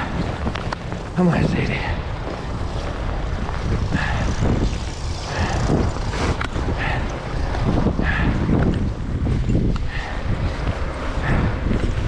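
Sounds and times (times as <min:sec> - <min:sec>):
boots crunching through snow: 0:00.0 - 0:12.0
wind rumble on microphone: 0:00.0 - 0:12.0.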